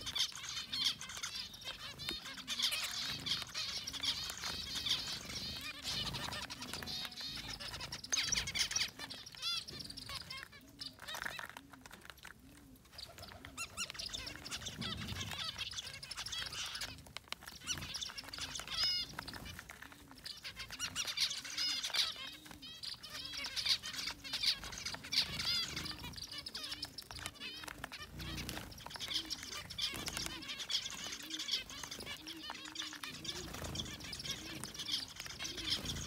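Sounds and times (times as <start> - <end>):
finches chirping: 0.0 - 12.1, 12.8 - 36.0.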